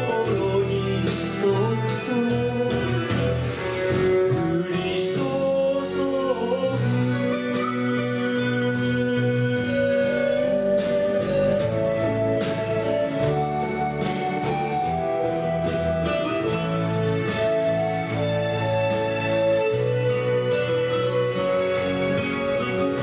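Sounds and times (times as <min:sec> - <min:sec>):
instrumental ballad backing track: 0:00.0 - 0:23.0.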